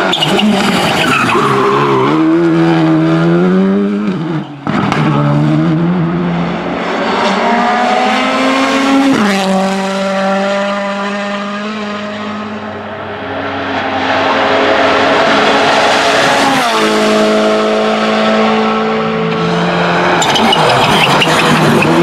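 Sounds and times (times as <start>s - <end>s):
rally car engines at full throttle: 0.0s - 22.0s.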